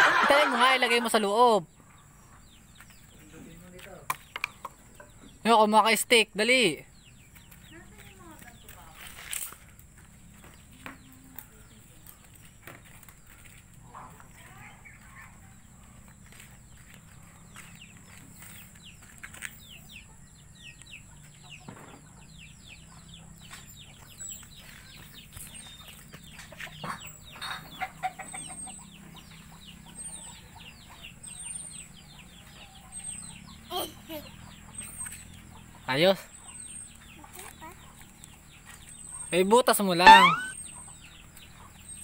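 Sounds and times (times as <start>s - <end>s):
chickens clucking and peeping: 0.0s - 9.0s, 9.6s - 42.0s.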